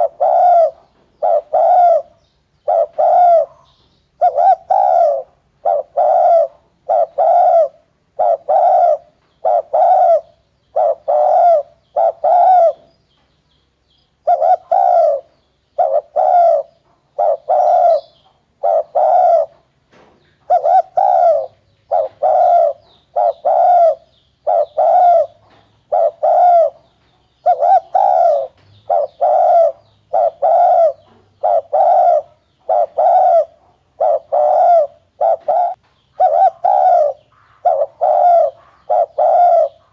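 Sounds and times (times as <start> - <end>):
dove cooing: 0.0 - 12.9, 14.2 - 19.7, 20.4 - 39.9.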